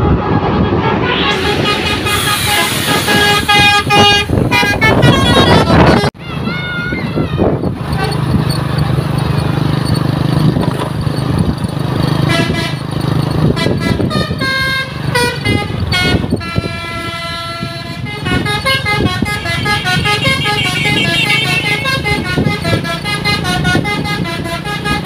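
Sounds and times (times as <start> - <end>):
multi-tone musical bus horn: 0.0 - 6.6, 7.4 - 8.4, 12.2 - 25.0
bus engine running: 0.0 - 25.0.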